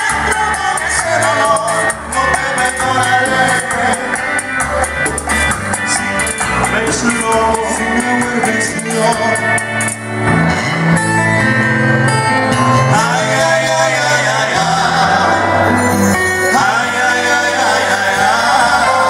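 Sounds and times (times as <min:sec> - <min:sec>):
men singing into microphones: 0:00.0 - 0:10.1, 0:12.8 - 0:19.0
loud backing music: 0:00.0 - 0:19.0.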